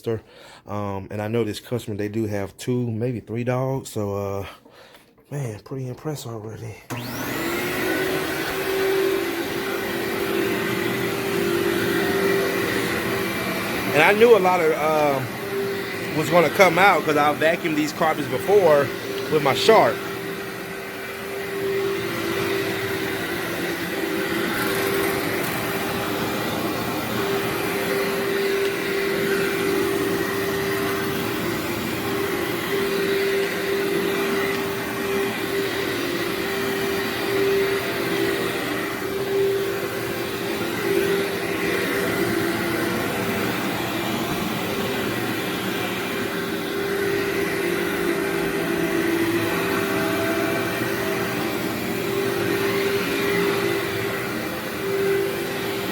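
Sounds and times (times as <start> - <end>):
vacuum cleaner running on carpet: 6.9 - 55.9.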